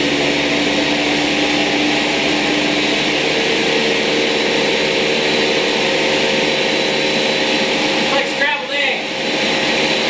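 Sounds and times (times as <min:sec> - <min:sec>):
blender whirring: 0:00.0 - 0:10.0.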